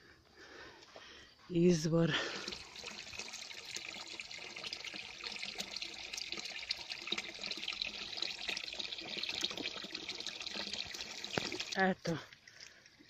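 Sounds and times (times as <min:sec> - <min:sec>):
water splashing into a basin: 0:02.1 - 0:13.0.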